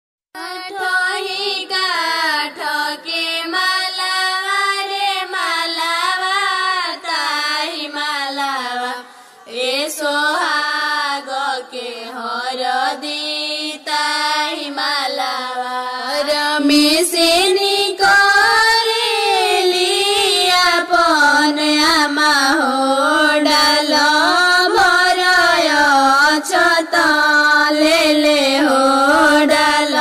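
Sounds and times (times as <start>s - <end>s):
woman singing: 0.4s - 30.0s.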